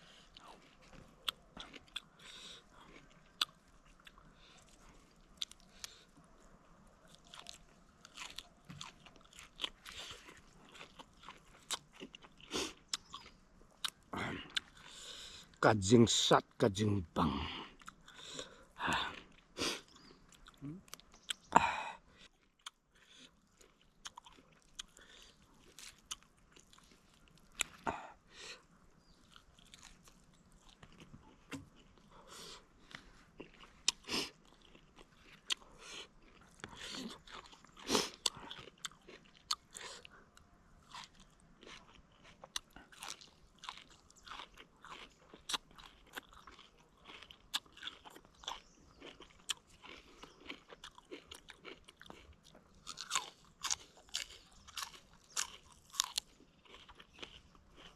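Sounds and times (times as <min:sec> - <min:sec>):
close chewing and crunching: 0:00.0 - 0:57.9.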